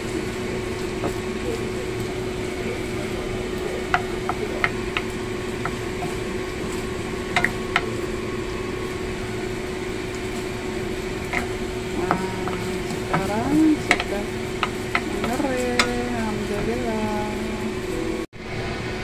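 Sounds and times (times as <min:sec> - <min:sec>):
wooden spatula stirring in frying pan: 0:00.0 - 0:17.5
steady background hum: 0:00.0 - 0:19.0.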